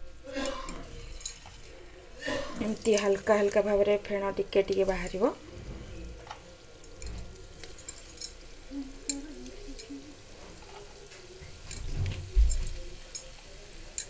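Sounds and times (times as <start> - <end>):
oil crackling and popping: 0.0 - 14.0.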